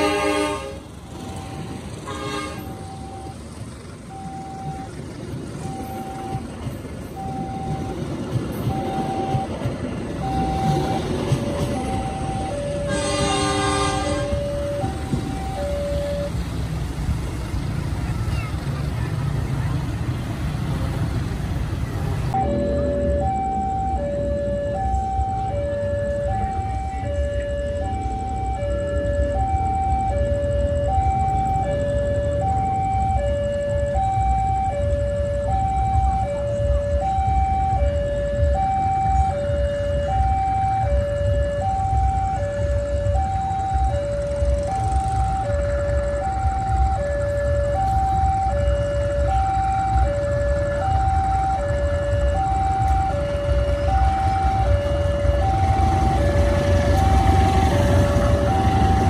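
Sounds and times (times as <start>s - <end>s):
two-tone crossing alarm: 0.0s - 17.0s, 22.3s - 59.0s
train rumble: 0.0s - 59.0s.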